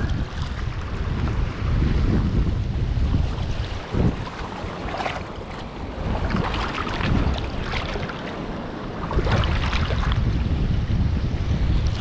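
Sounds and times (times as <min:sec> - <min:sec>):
shallow water splashing and lapping: 0:00.0 - 0:10.4
wind buffeting microphone: 0:00.0 - 0:12.0.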